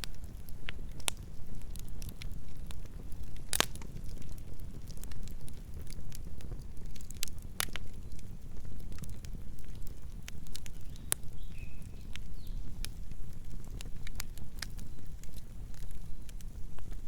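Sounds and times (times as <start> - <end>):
burning logs crackling: 0.0 - 17.0
low rumble of flames: 0.0 - 17.0.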